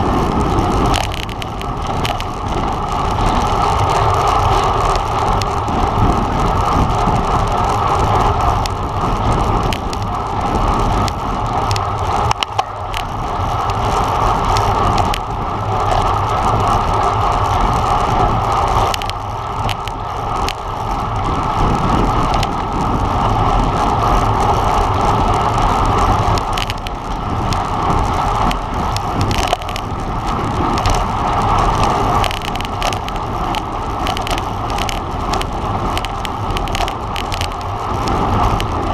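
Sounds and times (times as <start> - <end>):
bike road noise: 0.0 - 38.9
small clicks and rattles: 0.0 - 38.9
wind buffeting microphone: 0.0 - 38.9.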